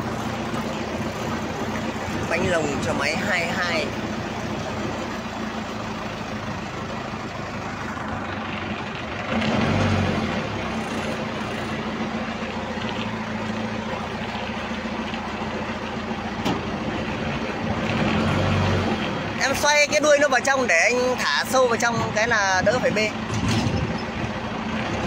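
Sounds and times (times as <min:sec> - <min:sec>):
forklift engine running: 0:00.0 - 0:25.0.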